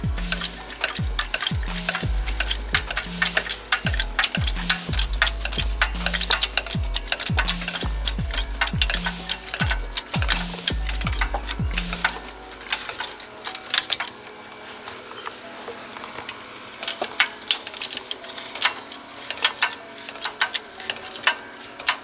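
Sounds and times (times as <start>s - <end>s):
jack clicking and clanking: 0.0s - 22.0s.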